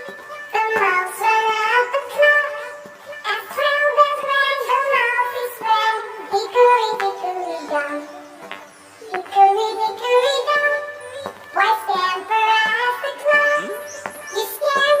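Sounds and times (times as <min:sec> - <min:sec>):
child-like voice singing: 0:00.0 - 0:15.0
music: 0:00.0 - 0:15.0.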